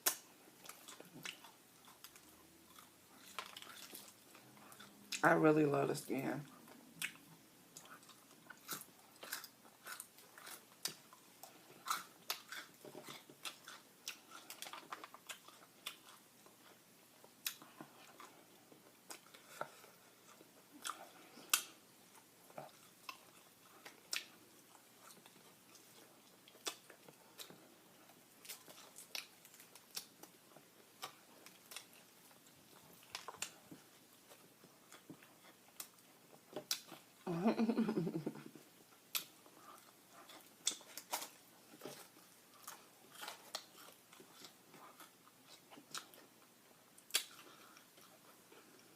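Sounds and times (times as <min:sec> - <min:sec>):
chewing crispy food: 0:00.0 - 0:48.9.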